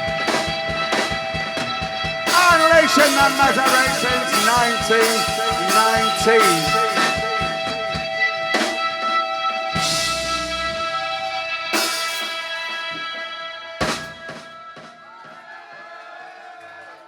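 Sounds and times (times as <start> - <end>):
rock band chord ringing: 0.0 - 14.9.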